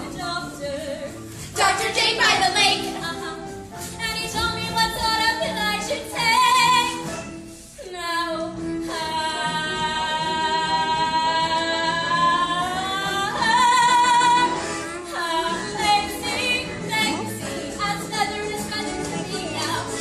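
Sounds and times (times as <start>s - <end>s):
woman singing: 0.0s - 7.1s, 7.8s - 20.0s
musical theatre backing track: 0.0s - 20.0s.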